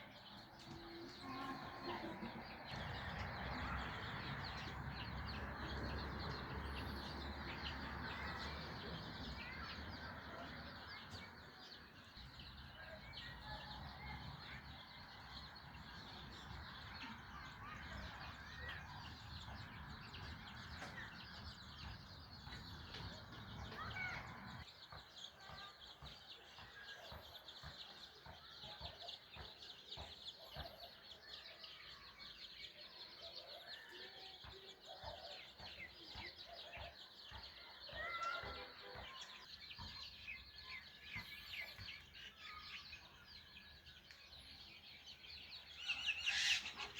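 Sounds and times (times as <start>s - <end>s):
birds chirping and calling: 0.0s - 46.9s.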